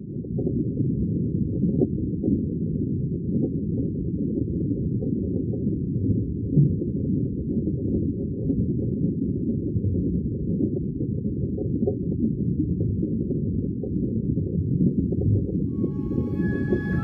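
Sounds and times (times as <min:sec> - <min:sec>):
muffled low rumble of water: 0:00.0 - 0:17.0.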